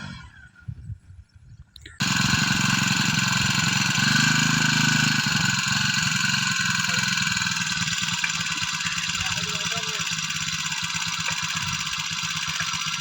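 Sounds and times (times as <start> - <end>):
small engine running with hiss: 2.0 - 13.0.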